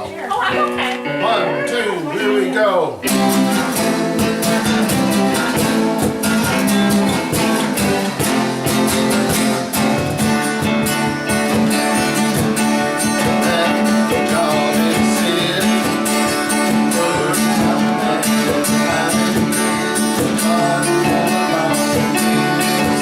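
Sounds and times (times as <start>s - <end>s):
small live band playing: 0.0s - 23.0s
strummed guitars: 0.0s - 23.0s
steady beat: 0.2s - 23.0s.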